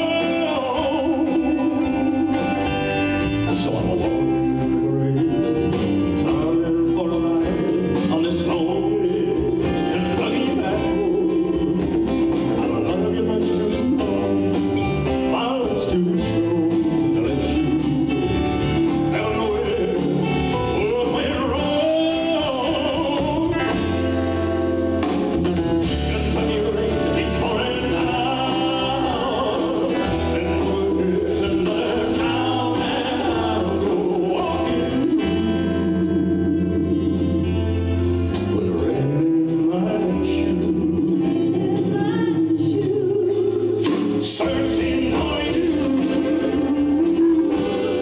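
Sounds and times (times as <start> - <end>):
man singing a slow ballad: 0.0 - 24.6, 25.8 - 37.7, 38.3 - 48.0
drums: 0.0 - 48.0
electric bass: 0.0 - 48.0.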